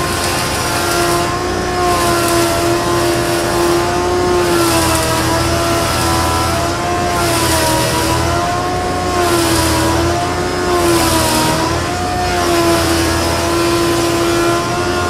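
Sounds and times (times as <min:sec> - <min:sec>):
jointer cutting wood hiss: 0:00.0 - 0:15.0
jointer motor humming: 0:00.0 - 0:15.0.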